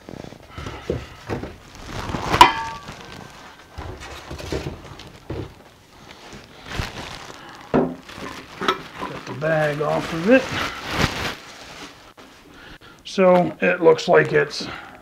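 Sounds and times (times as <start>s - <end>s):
plastic wrapping rustling: 0.0s - 13.3s.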